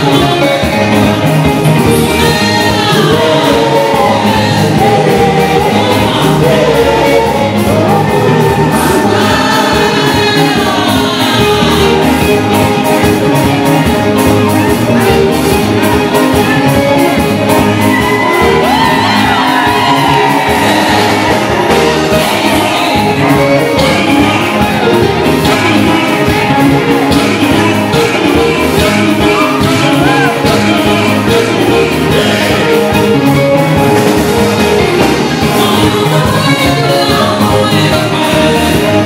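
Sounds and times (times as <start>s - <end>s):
dance music with singing: 0.0s - 39.0s.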